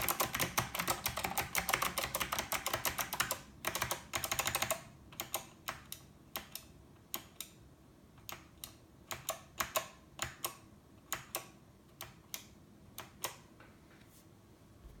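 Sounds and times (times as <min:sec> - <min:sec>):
clicky keyboard keystrokes: 0:00.0 - 0:07.6, 0:08.2 - 0:13.5.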